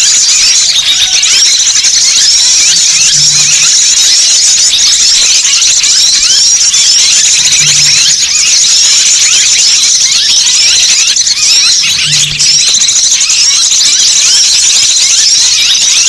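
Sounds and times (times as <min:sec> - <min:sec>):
flock of birds chirping: 0:00.0 - 0:16.0.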